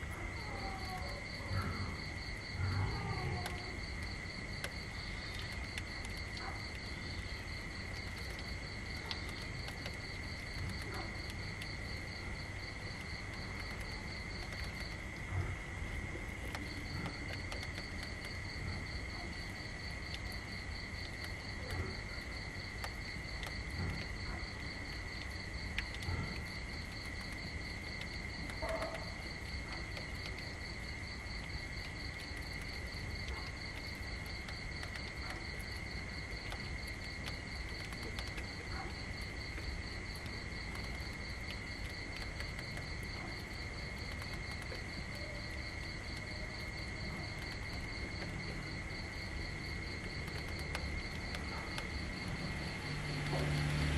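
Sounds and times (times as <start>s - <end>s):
crickets trilling: 0.0s - 53.9s
faint clicks: 0.0s - 53.9s.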